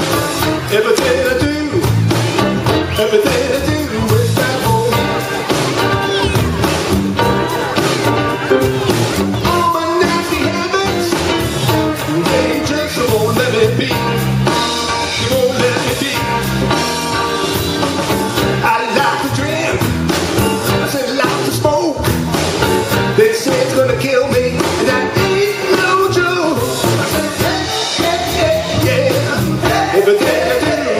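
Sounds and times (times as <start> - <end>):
person singing: 0.0 - 19.9, 23.0 - 30.9
blues band playing: 0.0 - 30.9.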